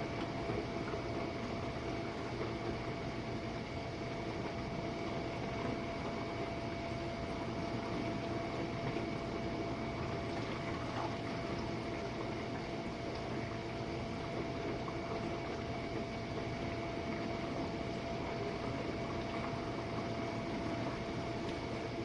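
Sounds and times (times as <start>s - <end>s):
dishwasher water churning: 0.0s - 22.0s
pump motor hum: 0.0s - 22.0s.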